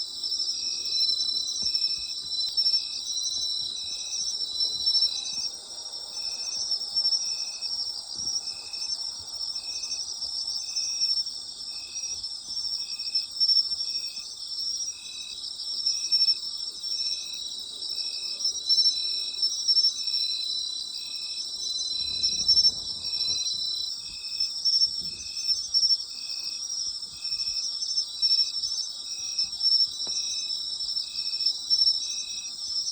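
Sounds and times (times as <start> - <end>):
insect chirping steadily: 0.0 - 32.9
insects trilling: 0.0 - 32.9.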